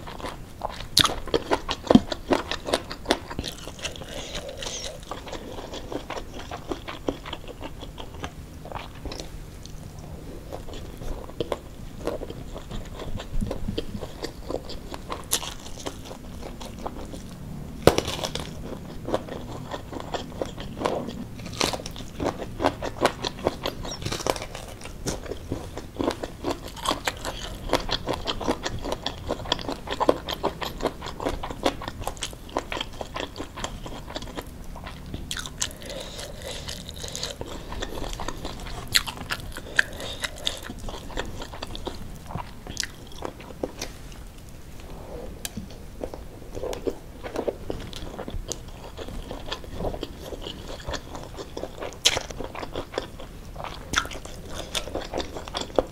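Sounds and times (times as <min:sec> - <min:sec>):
crunchy chewing: 0:00.0 - 0:55.9.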